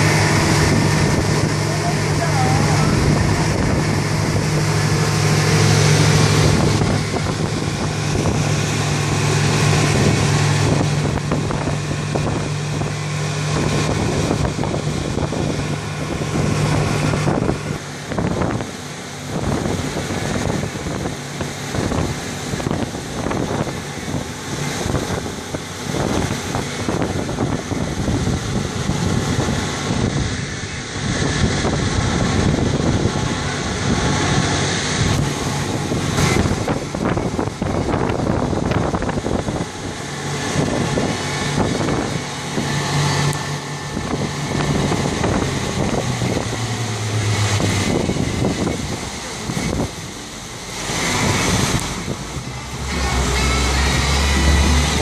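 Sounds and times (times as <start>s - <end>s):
boat engine humming: 0.0s - 55.0s
rushing water: 0.0s - 55.0s
wind on microphone: 0.0s - 55.0s.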